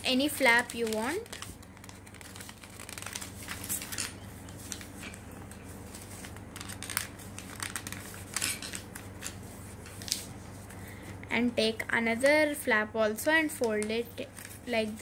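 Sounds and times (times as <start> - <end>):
paper rustling and crinkling: 0.1 - 10.9, 13.6 - 15.0.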